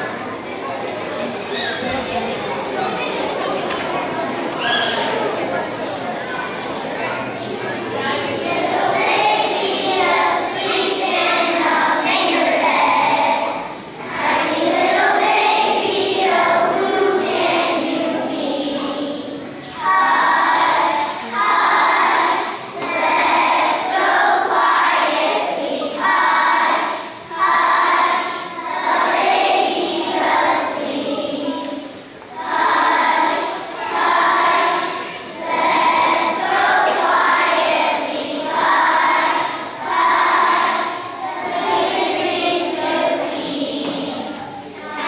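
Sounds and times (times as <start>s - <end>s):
children's choir singing: 0.0s - 45.0s.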